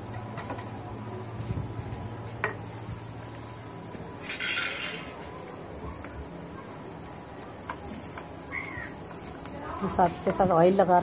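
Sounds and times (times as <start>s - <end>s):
meat sizzling on grill: 0.0s - 11.0s.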